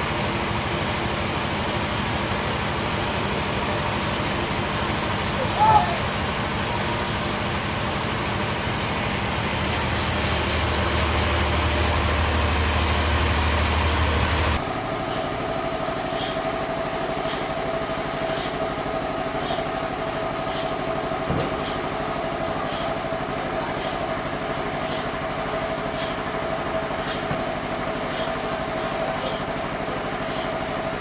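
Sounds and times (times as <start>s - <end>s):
machine hum: 0.0s - 31.0s
sawmill cutting wood: 0.4s - 31.0s.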